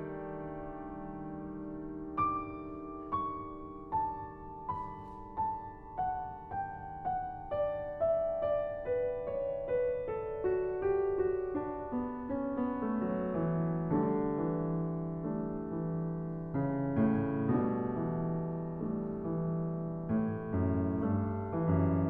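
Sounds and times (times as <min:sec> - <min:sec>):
classical piano piece: 0:00.0 - 0:22.0.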